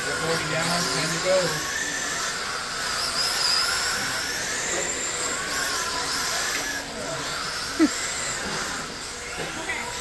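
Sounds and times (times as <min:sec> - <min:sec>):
remote control car motors whining: 0:00.0 - 0:10.0.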